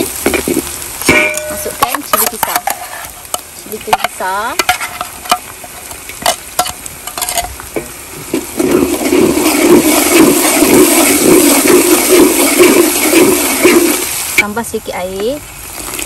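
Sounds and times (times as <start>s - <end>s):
metal spatula scraping wok: 0.0s - 7.6s, 8.3s - 14.2s
paste sizzling in hot oil: 0.0s - 16.0s.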